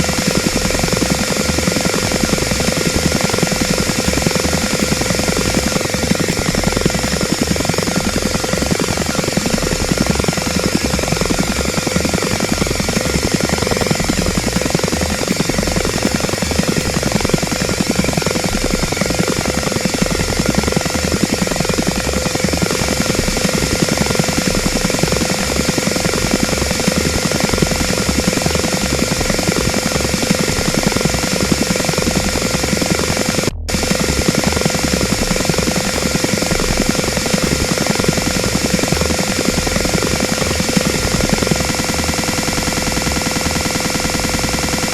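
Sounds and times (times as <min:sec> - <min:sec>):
helicopter rotor beat: 0:00.0 - 0:44.9
turbine rush with whine: 0:00.0 - 0:44.9.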